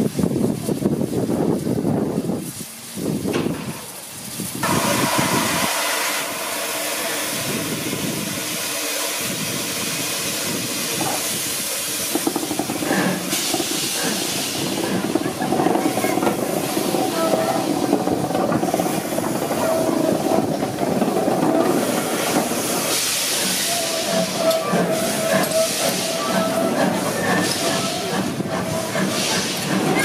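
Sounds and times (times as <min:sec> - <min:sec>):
loud hiss of escaping steam: 0:00.0 - 0:30.0
steam locomotive moving slowly: 0:00.0 - 0:30.0.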